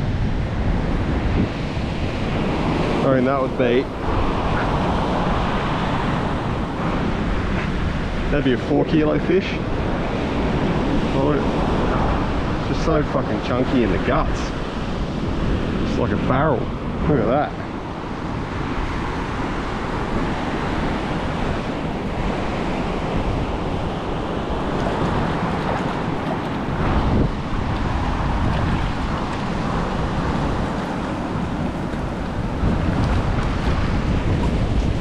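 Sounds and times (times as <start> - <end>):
ocean surf breaking on beach: 0.0 - 35.0
wind buffeting microphone: 0.0 - 35.0.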